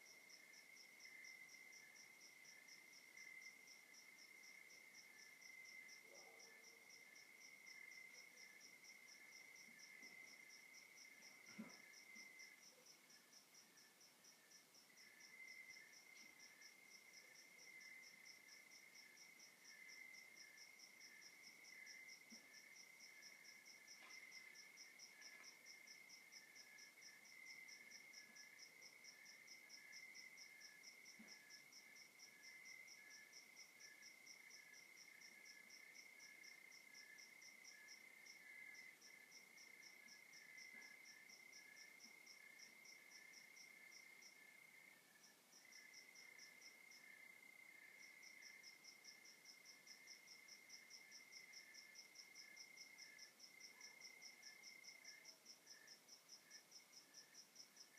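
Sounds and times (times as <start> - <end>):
slow pulsing insect call: 0.0 - 57.9.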